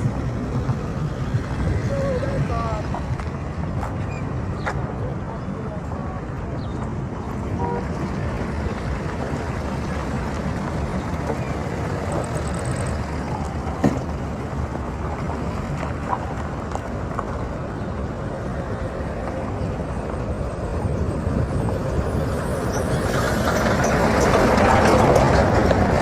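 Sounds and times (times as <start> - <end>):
road and vehicle noise: 0.0 - 26.0.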